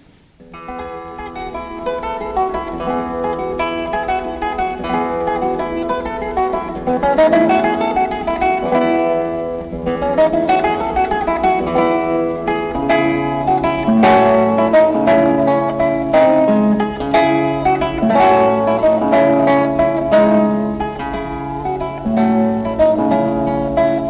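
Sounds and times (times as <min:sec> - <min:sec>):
plucked string melody: 0:00.0 - 0:24.0.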